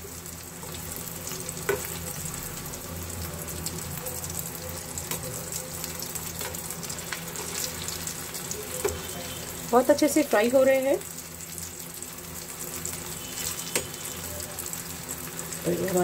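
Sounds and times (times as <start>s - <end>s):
deep-frying sizzle: 0.0s - 16.0s.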